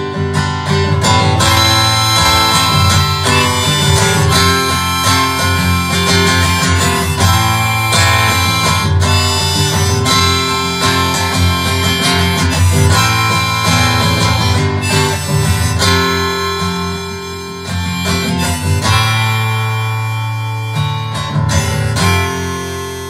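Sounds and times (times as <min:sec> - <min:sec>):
harmonica: 0:00.0 - 0:23.0
strummed acoustic guitar: 0:00.0 - 0:23.0.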